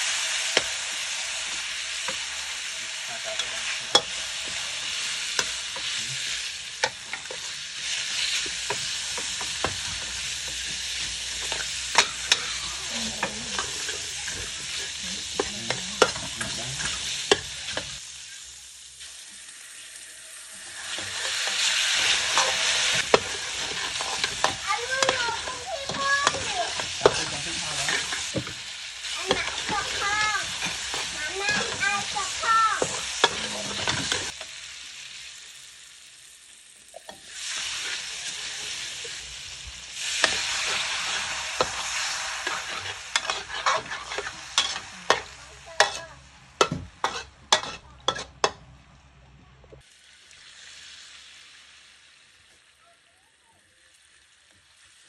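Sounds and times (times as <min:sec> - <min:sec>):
metal spatula scraping a wok: 0:00.0 - 0:18.4, 0:19.4 - 0:34.4, 0:37.0 - 0:48.6
loud burst of sizzle: 0:00.0 - 0:48.8, 0:49.8 - 0:55.0
meat sizzling in a wok: 0:00.0 - 0:55.0.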